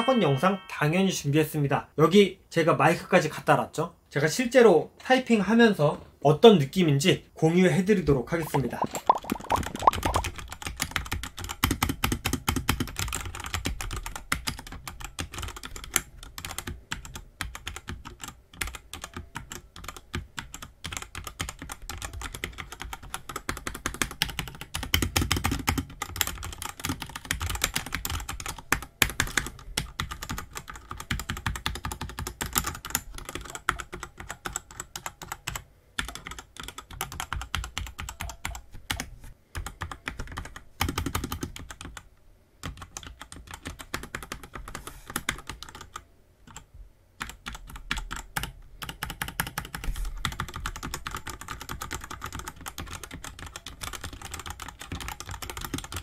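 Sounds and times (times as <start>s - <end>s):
fast mechanical keyboard typing: 8.4s - 56.0s.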